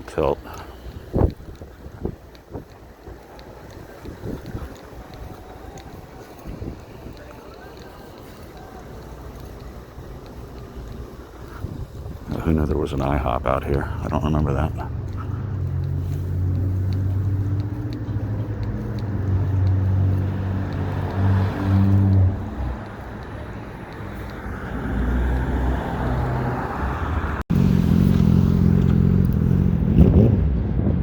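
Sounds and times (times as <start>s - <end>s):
vehicle engine passing: 3.6s - 31.0s.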